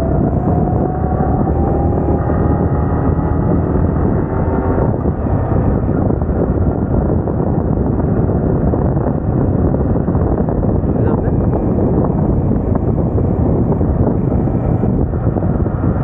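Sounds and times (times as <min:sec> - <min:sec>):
motorcycle engine running: 0:00.0 - 0:16.0
wind rumble on microphone: 0:00.0 - 0:16.0.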